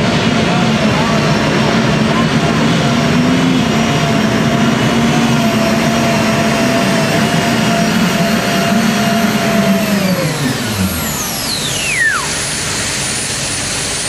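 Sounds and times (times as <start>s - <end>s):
high engine whine: 0.0s - 14.0s
tractor engine running hard: 0.0s - 14.0s.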